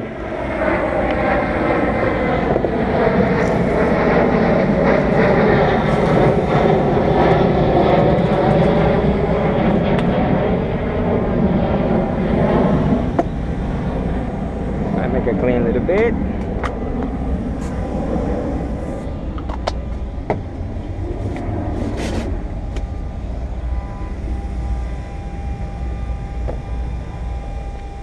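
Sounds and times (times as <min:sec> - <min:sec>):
engine-like drone: 0:00.0 - 0:28.0.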